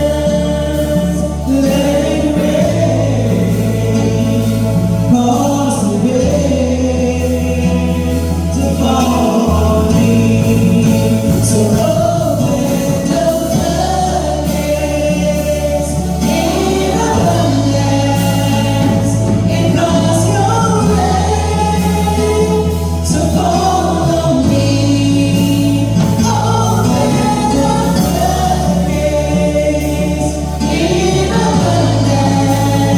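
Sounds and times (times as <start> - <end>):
gospel choir singing: 0.0 - 32.9
instrumental accompaniment: 0.0 - 32.9
low bass notes: 0.0 - 32.9.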